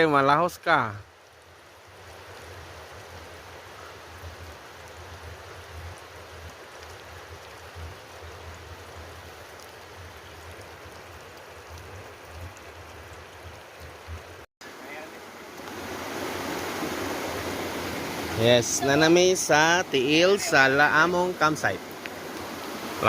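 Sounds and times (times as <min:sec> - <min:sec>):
hiss of rushing water: 0:00.0 - 0:23.0.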